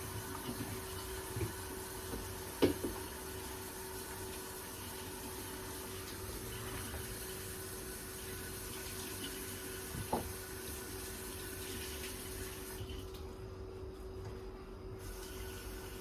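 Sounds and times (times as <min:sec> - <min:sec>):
faucet running into sink: 0:00.0 - 0:13.2.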